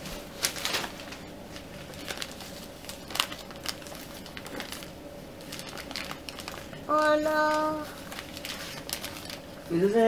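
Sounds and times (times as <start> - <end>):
wrapping paper crinkling: 0.0 - 10.0.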